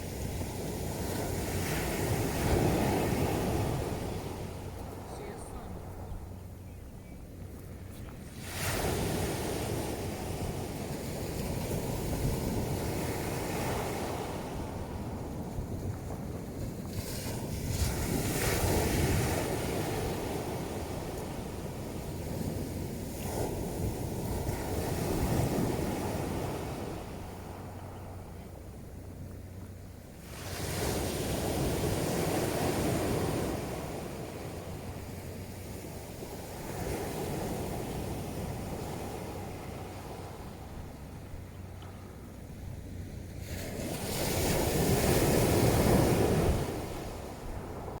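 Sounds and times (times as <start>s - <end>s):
surf on a pebble beach: 0.0s - 6.5s, 7.3s - 28.2s, 30.1s - 48.0s.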